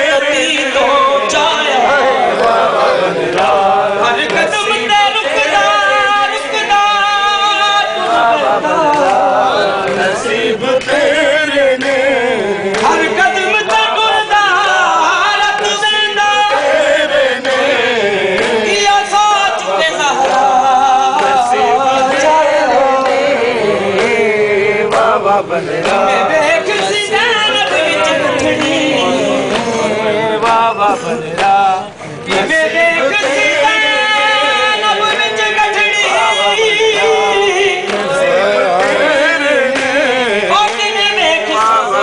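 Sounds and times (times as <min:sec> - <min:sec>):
male crowd chanting in unison: 0:00.0 - 0:42.0.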